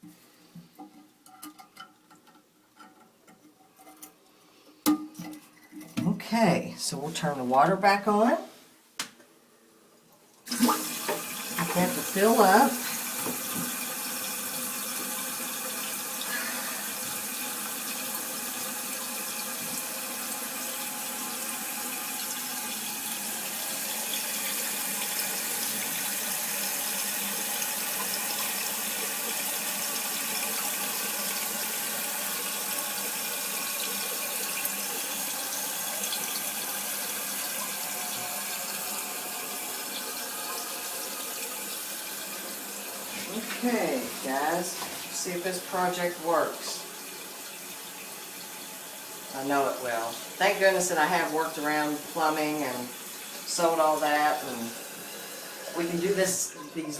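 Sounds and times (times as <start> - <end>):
toilet tank refilling hiss: 10.4 - 56.9.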